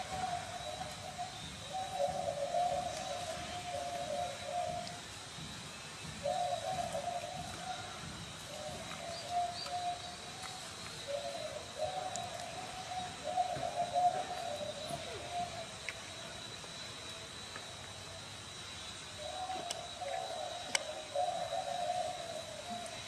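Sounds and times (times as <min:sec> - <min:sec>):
low cooing animal calls: 0:00.0 - 0:05.1, 0:06.2 - 0:16.5, 0:19.2 - 0:23.0.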